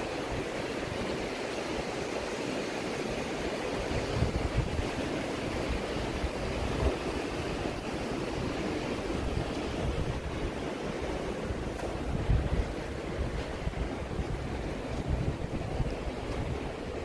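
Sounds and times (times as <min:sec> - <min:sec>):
river water rushing: 0:00.0 - 0:17.0
wind buffeting microphone: 0:00.0 - 0:17.0.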